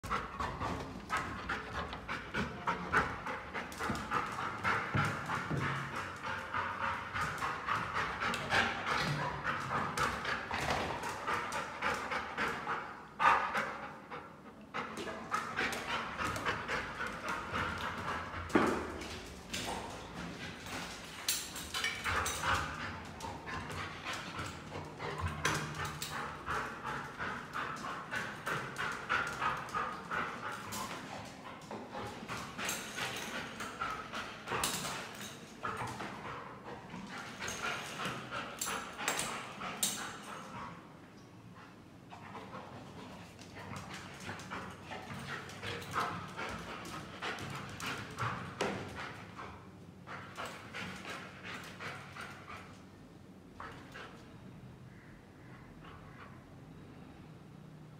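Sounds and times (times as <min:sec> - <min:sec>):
footsteps and clicking on floor: 0:00.0 - 0:12.8, 0:14.8 - 0:40.8, 0:41.6 - 0:52.8
dog panting: 0:00.0 - 0:18.9, 0:22.0 - 0:52.9.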